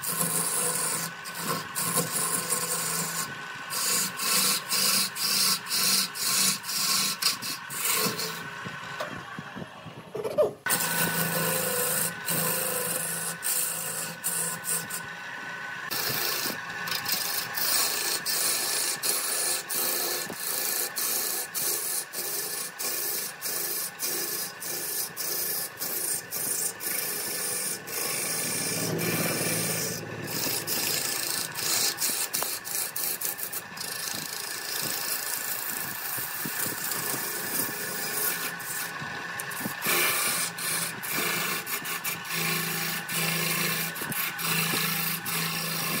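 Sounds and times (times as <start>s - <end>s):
gouge shaving wood on lathe: 0.0s - 46.0s
lathe hum: 0.0s - 46.0s.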